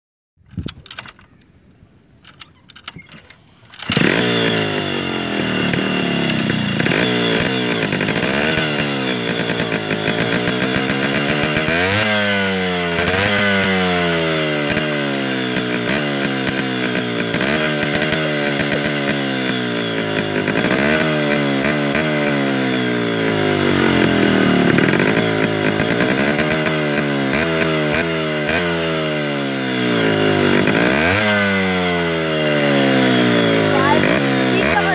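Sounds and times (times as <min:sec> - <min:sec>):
motorcycle engine revving: 0:02.3 - 0:34.9.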